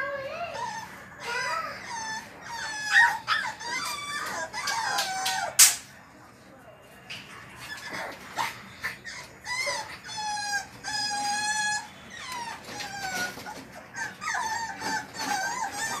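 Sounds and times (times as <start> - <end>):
puppies whining: 0.0 - 5.8, 7.2 - 16.0.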